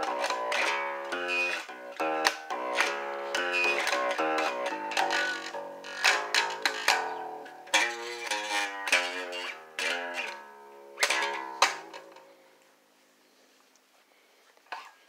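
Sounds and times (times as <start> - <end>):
guitar chords strummed: 0.0 - 12.4.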